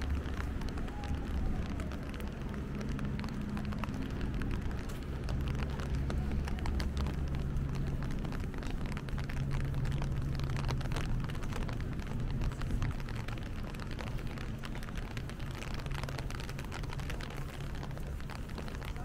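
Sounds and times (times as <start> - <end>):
rain pattering: 0.0 - 19.0
traffic engine hum: 0.0 - 19.0.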